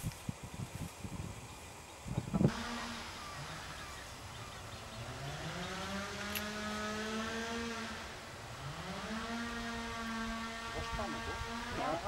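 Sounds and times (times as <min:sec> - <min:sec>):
motor engine running: 0:02.3 - 0:12.0.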